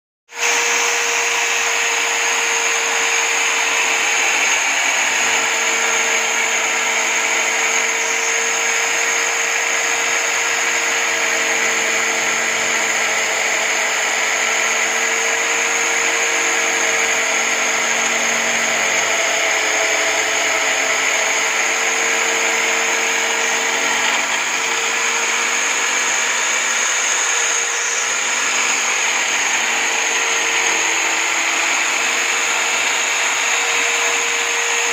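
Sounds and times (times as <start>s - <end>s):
drill motor whining: 0.3s - 34.9s
sanding drum grinding wood: 0.3s - 34.9s.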